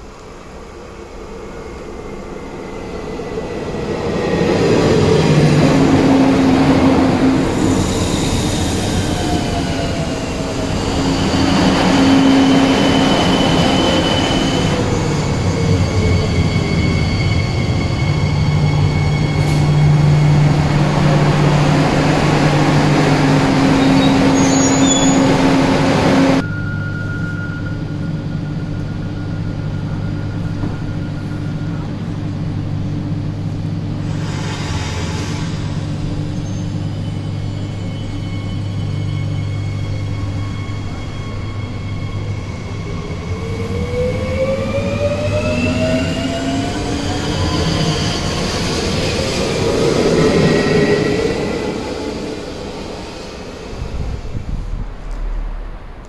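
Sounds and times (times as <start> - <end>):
stationary train equipment hum: 0.0 - 56.0.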